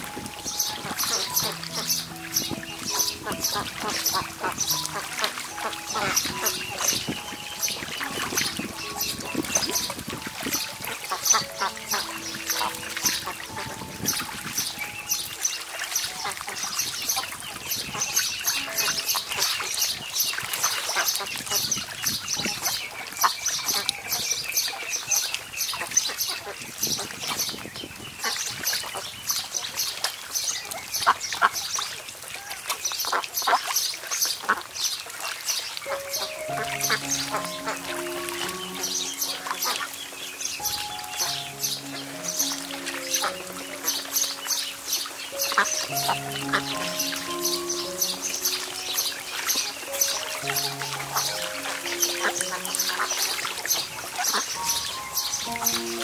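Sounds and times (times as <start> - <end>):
soft music: 0.0 - 27.5, 35.3 - 56.0
water splashing: 0.0 - 56.0
ducks quacking: 0.1 - 24.3, 33.0 - 56.0.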